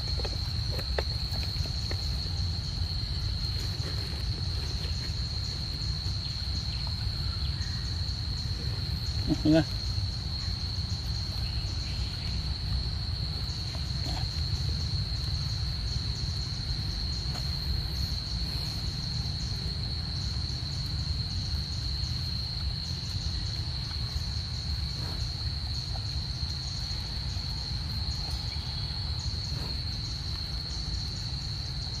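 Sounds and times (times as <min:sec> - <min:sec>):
constant low rumble: 0:00.0 - 0:32.0
insect high-pitched whine: 0:00.0 - 0:32.0
insects chirping: 0:00.0 - 0:32.0.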